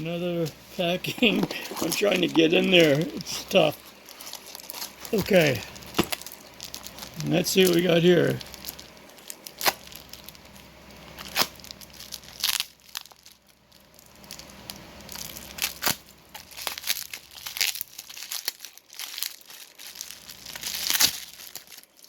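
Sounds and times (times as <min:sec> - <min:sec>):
packing wrap crinkling and tearing: 0:00.4 - 0:22.0.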